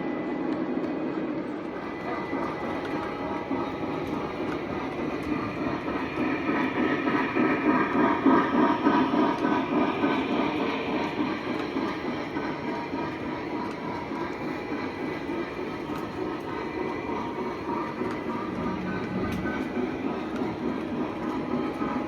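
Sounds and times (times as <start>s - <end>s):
model trains rumbling on track: 1.4s - 22.0s.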